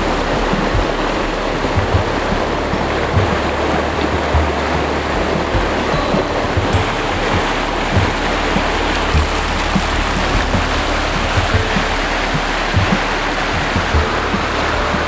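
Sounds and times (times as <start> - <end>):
rushing river water: 0.0 - 15.0
short low bumps: 0.0 - 15.0.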